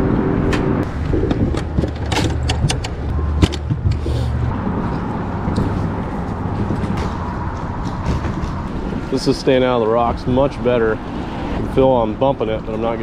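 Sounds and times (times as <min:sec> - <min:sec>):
traffic rumble on bridge overhead: 0:00.0 - 0:13.0.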